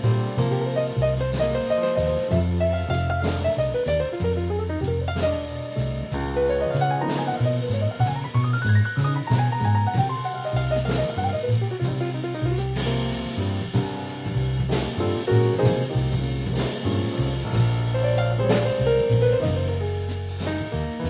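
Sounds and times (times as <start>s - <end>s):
drum kit with cymbals: 0.0s - 21.0s
low bass notes: 0.0s - 21.0s
piano: 0.0s - 21.0s.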